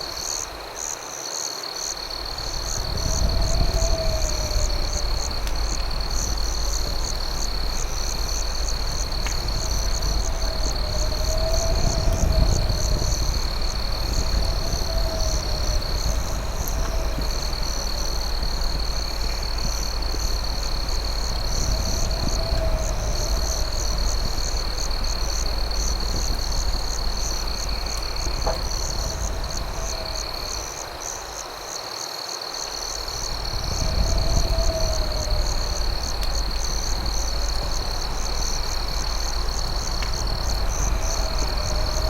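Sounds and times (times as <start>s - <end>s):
crickets trilling: 0.0s - 42.0s
low rumble: 2.1s - 31.1s, 33.0s - 42.0s.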